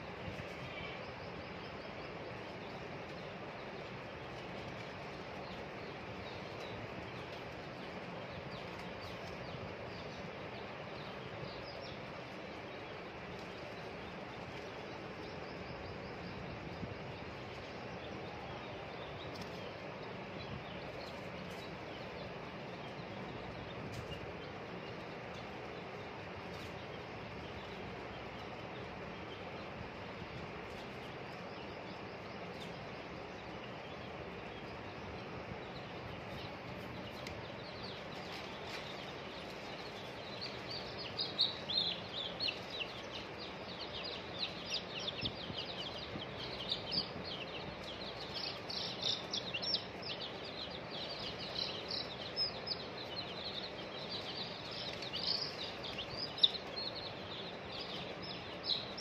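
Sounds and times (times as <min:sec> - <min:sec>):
background hiss: 0:00.0 - 0:59.0
small birds chirping: 0:00.0 - 0:59.0.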